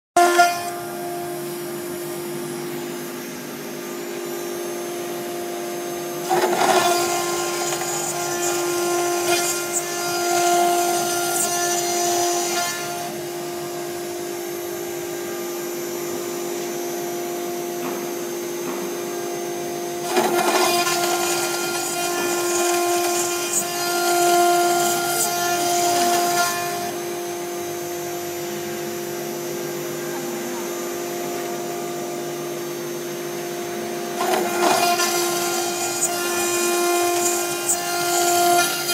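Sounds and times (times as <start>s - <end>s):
router cutting metal: 0.2s - 38.9s.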